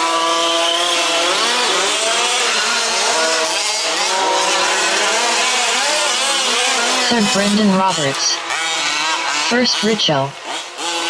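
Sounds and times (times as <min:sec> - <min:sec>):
model truck engines revving: 0:00.0 - 0:11.0.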